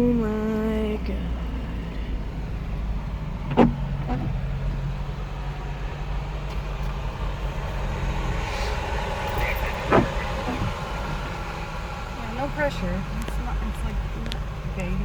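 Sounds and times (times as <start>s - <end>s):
car engine running: 0.0s - 15.0s
low hum: 0.0s - 15.0s.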